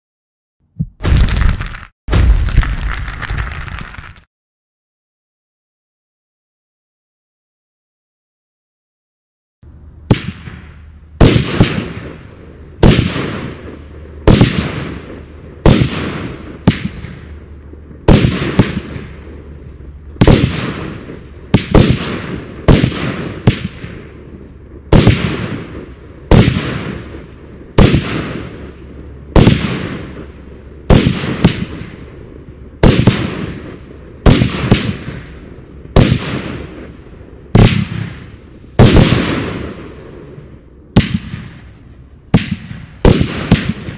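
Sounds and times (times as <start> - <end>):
firework booming bangs: 0.8 - 3.7, 10.1 - 43.9.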